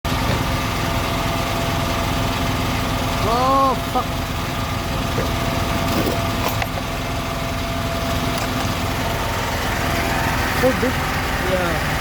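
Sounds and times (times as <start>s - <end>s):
small engine running: 0.1s - 12.0s.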